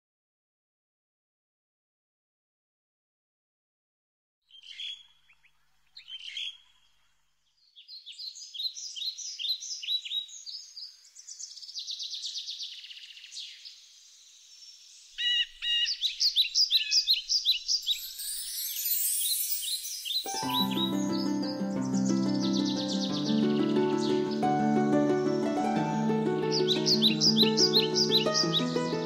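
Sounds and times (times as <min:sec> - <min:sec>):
songbirds chirping and trilling: 0:04.5 - 0:29.0.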